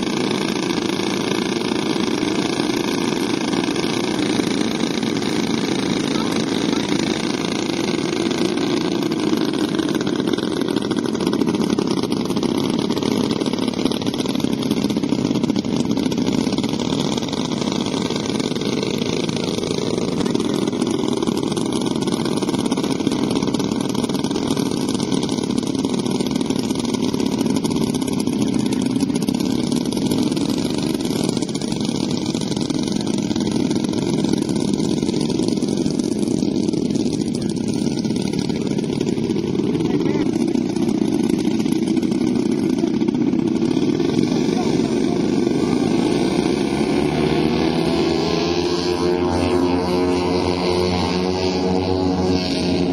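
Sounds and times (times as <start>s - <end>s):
model airplane engines running: 0.0s - 52.9s.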